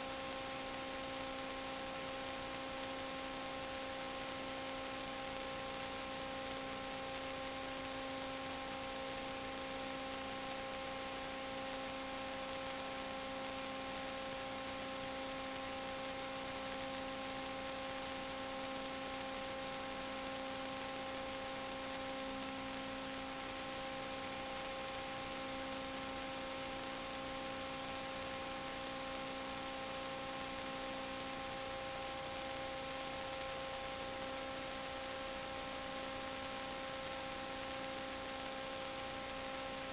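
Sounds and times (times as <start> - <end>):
electrical hum with hiss: 0.0 - 39.9.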